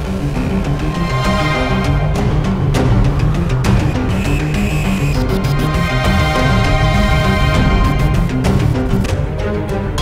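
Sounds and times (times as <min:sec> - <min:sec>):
dramatic news music: 0:00.0 - 0:10.0.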